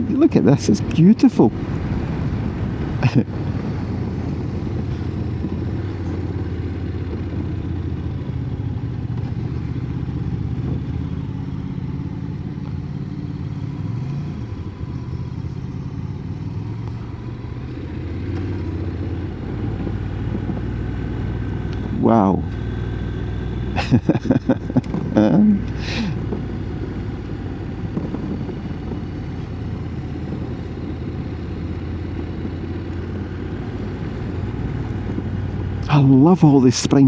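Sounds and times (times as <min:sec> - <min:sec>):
motorcycle engine running: 0:00.0 - 0:36.7
wind and road rumble: 0:00.0 - 0:37.0.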